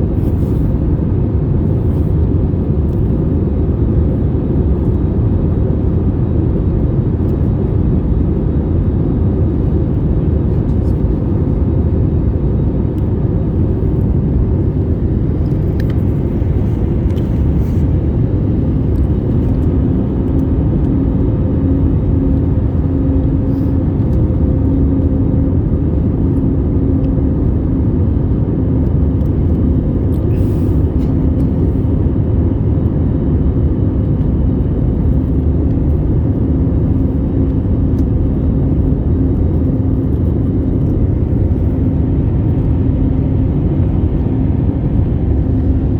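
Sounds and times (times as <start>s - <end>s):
airliner engines rumbling: 0.0s - 45.9s.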